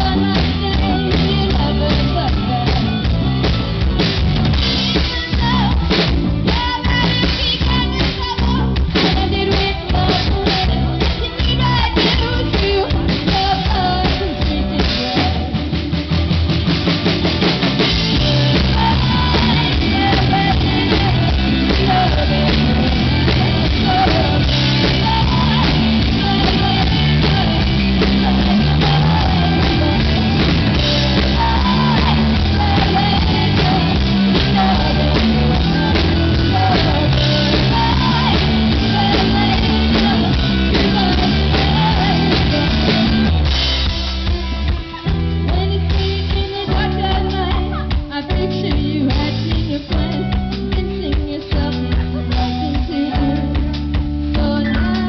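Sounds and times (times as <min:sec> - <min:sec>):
woman singing into a microphone: 0:00.0 - 0:16.2, 0:17.8 - 0:55.0
drum kit: 0:00.0 - 0:55.0
guitar: 0:00.0 - 0:55.0
keyboards: 0:00.0 - 0:55.0.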